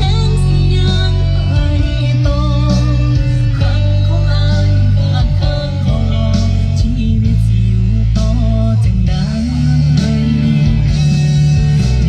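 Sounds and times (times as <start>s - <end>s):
heavy deep bass: 0.0s - 12.0s
song over loud speakers: 0.0s - 12.0s.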